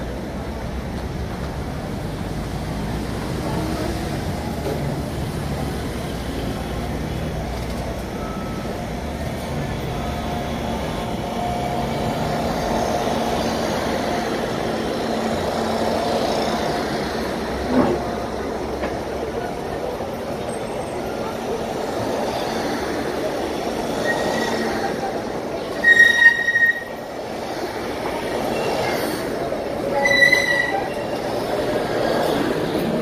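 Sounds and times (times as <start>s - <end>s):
electric train passing: 0.0s - 33.0s.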